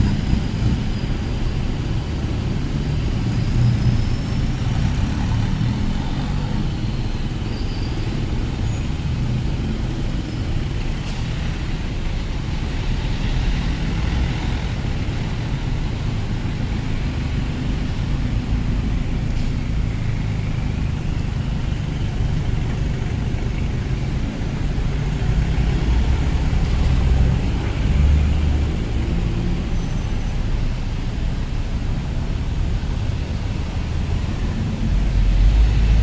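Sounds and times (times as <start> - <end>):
street traffic rumble: 0.0 - 36.0.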